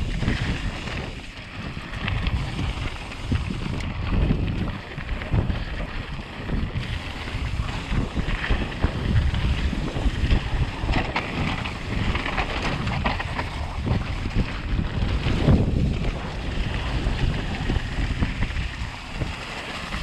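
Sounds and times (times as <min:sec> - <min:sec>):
bike rattles and knocks: 0:00.0 - 0:20.0
bike tyre noise on dirt: 0:00.0 - 0:20.0
wind rushing over microphone: 0:00.0 - 0:20.0.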